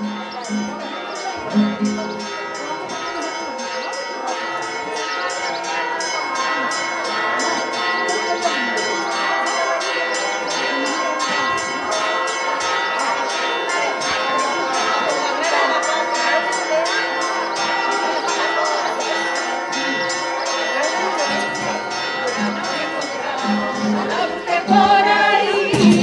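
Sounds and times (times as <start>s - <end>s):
church bells pealing: 0.0s - 26.0s.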